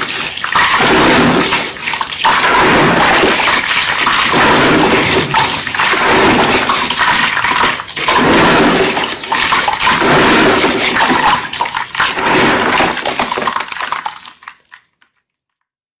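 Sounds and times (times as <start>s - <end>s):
wet chalk crunching and squishing: 0.0s - 14.8s.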